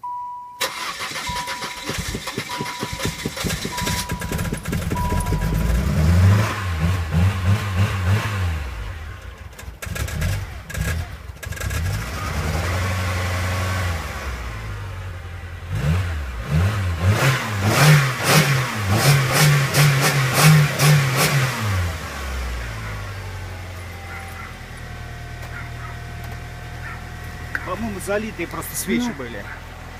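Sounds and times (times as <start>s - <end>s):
car engine revving: 0.6s - 29.9s.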